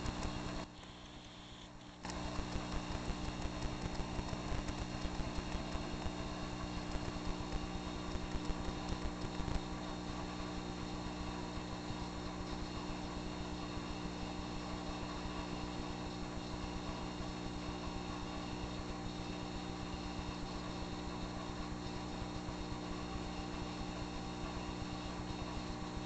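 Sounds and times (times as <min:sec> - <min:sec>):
aquarium motor hum: 0:00.0 - 0:26.0.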